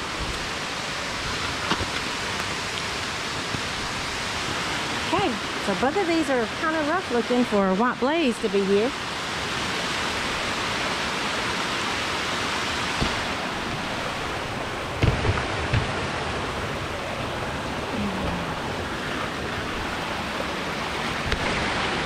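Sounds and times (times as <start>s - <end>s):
water rushing down hillside: 0.0s - 22.0s.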